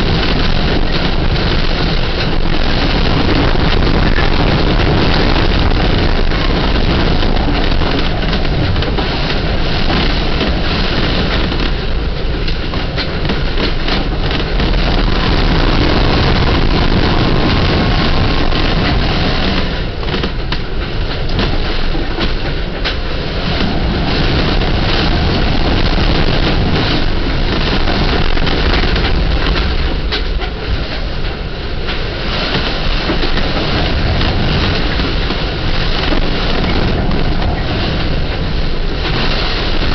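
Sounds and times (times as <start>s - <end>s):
strong wind against boat hull: 0.0s - 39.9s.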